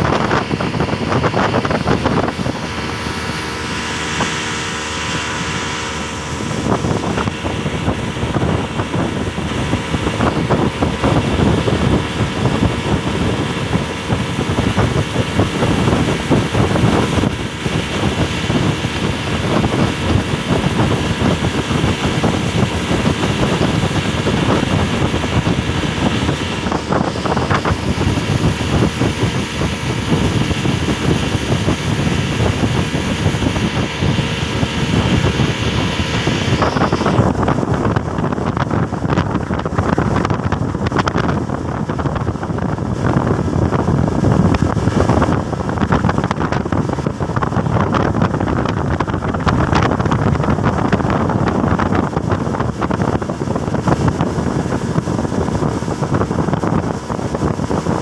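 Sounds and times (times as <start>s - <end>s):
rushing water noise: 0.0s - 58.0s
speedboat engine running: 0.0s - 58.0s.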